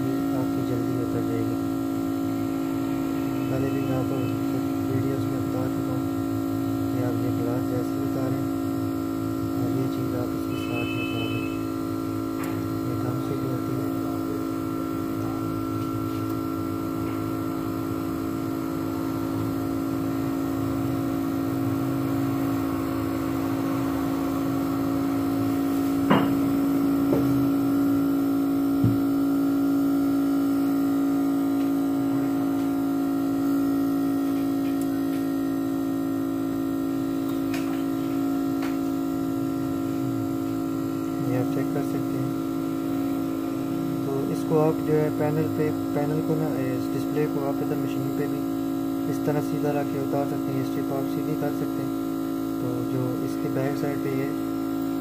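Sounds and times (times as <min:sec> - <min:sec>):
machine electric hum: 0:00.0 - 0:55.0.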